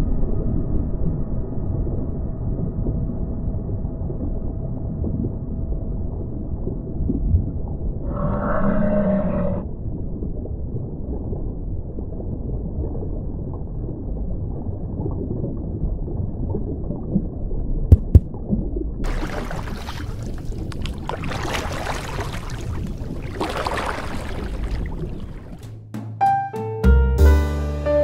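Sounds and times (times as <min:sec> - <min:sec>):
underwater rumble: 0:00.0 - 0:25.7
crackling water noise: 0:00.0 - 0:25.8.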